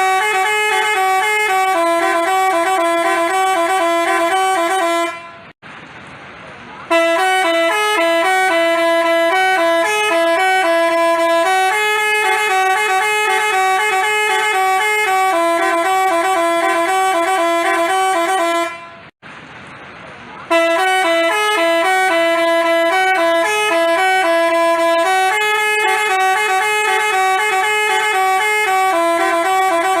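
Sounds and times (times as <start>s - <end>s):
musical horn playing tune: 0.0s - 5.6s, 6.9s - 19.1s, 20.5s - 30.0s.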